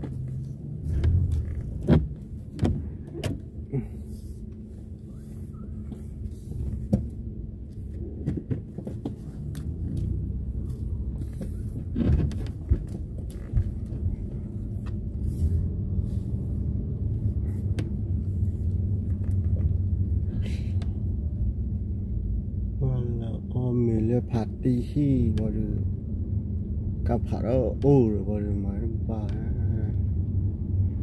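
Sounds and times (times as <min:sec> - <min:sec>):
car cabin rumble: 0:00.0 - 0:31.0.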